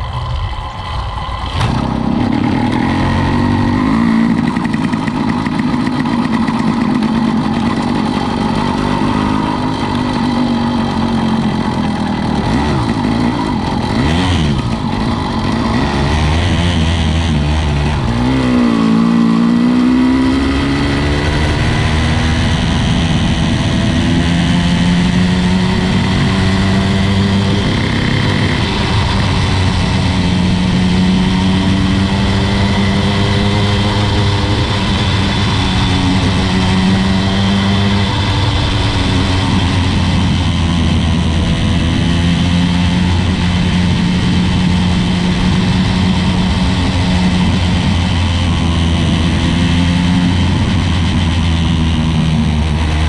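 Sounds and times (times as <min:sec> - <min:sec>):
small two-stroke engine running: 0:00.0 - 0:53.0.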